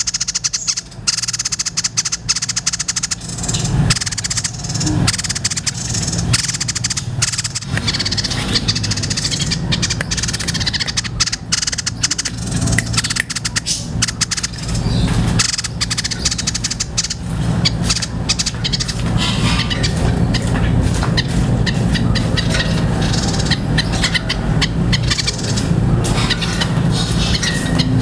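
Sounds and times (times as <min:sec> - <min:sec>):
bird chattering song: 0:00.0 - 0:28.0
low hum: 0:00.0 - 0:28.0.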